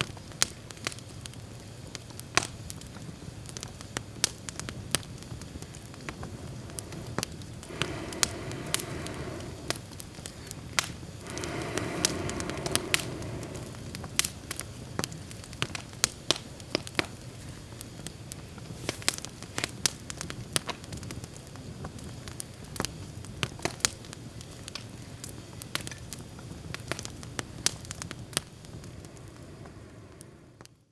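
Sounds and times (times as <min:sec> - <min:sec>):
campfire crackling: 0:00.0 - 0:30.9
rushing sound of burning: 0:02.7 - 0:30.9.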